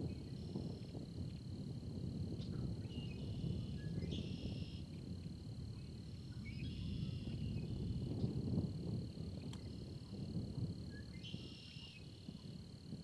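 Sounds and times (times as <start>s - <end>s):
insect trill: 0.0s - 13.0s
low storm rumble: 0.0s - 13.0s.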